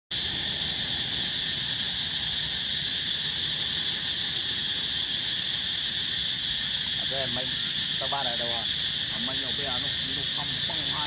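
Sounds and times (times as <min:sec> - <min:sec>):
insect chorus drone: 0:00.1 - 0:11.0.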